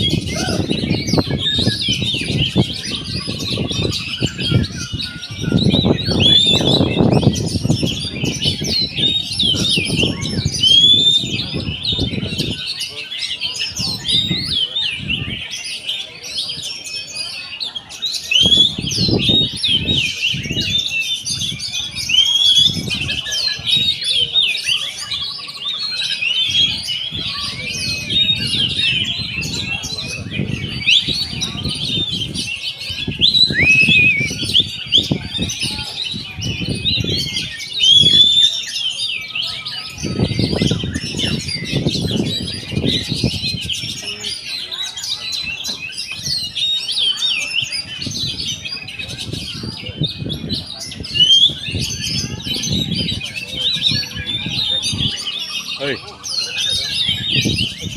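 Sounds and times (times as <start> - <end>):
songbird singing: 0.0 - 57.9.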